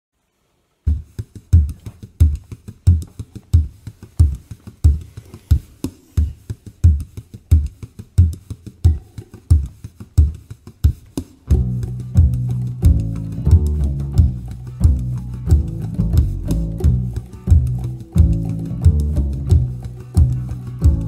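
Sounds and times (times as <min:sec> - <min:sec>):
frame drum played in steady rhythm: 0:00.9 - 0:21.0.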